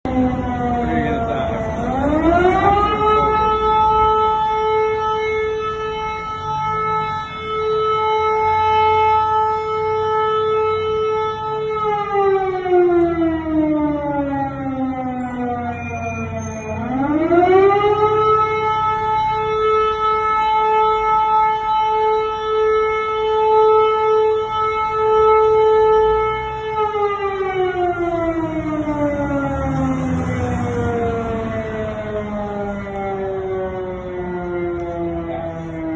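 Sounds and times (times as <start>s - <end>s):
air raid siren wailing: 0.0s - 35.9s.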